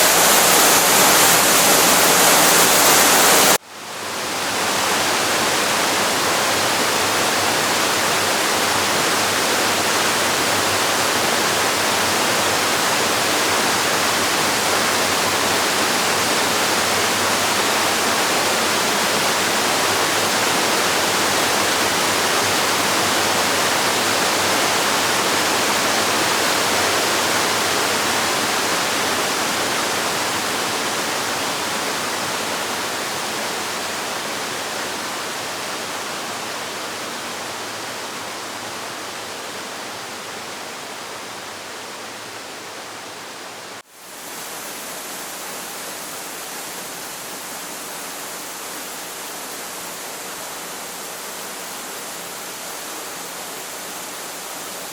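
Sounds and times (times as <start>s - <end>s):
waterfall rushing: 0.0s - 3.6s, 4.3s - 41.4s, 42.9s - 54.9s.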